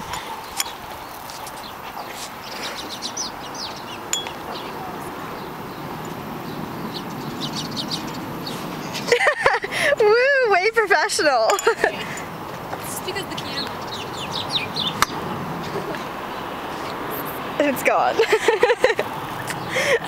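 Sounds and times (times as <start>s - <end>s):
small birds chirping: 0.0s - 10.0s, 11.0s - 20.0s
outdoor background noise: 0.0s - 20.0s.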